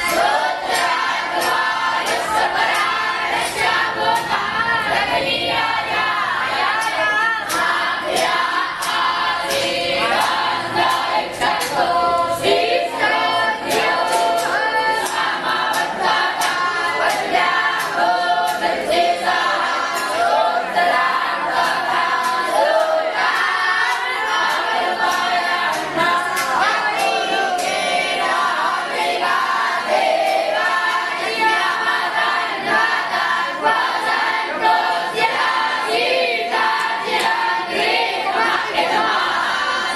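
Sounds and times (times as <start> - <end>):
young voices chanting in chorus: 0.0 - 39.9.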